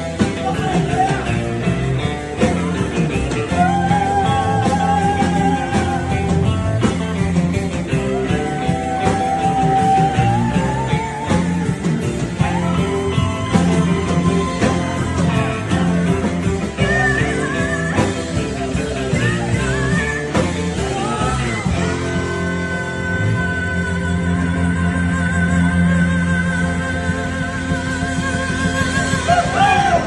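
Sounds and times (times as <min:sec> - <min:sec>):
rock band playing slow song: 0:00.0 - 0:30.0.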